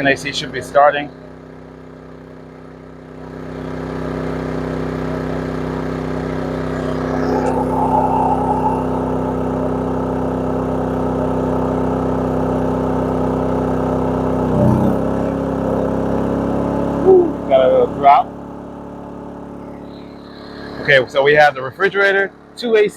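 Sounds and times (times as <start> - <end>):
generator running under heavy load: 0.0 - 8.6, 9.3 - 22.9.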